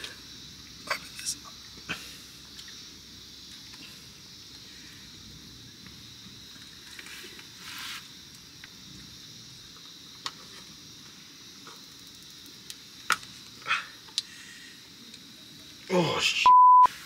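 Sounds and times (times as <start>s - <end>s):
rustle: 0.0s - 16.3s
insects chirring: 0.0s - 17.0s.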